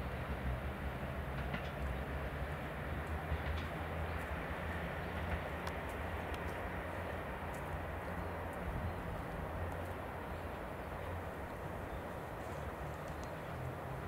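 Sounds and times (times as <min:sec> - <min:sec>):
diesel train engines droning: 0:00.0 - 0:14.0.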